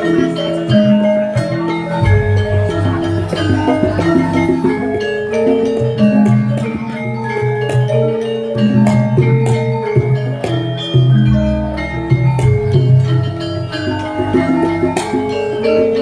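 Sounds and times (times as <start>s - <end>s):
gamelan ensemble playing: 0.0s - 16.0s.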